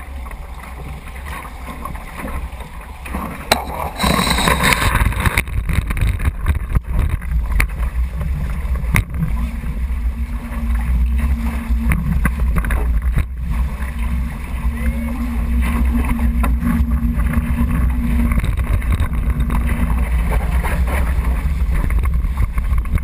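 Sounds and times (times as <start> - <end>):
water rushing past hull: 0.0 - 23.0
wind buffeting microphone: 3.2 - 23.0.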